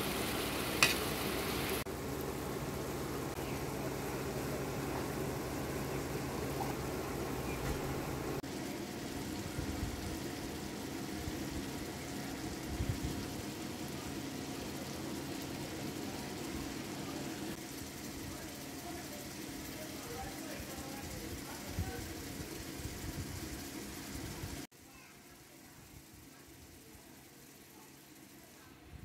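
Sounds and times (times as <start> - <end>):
curry bubbling in a pan: 0.0 - 28.8
low background hum: 0.0 - 29.0.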